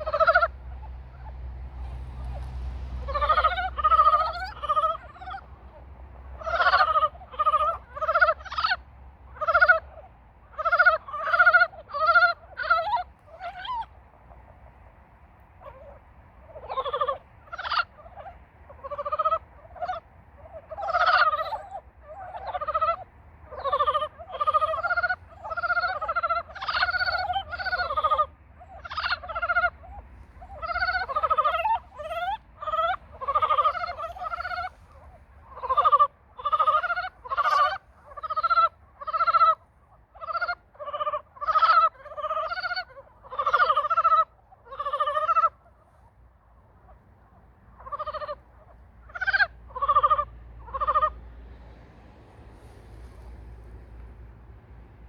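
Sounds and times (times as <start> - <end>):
frogs croaking: 0.0 - 51.7.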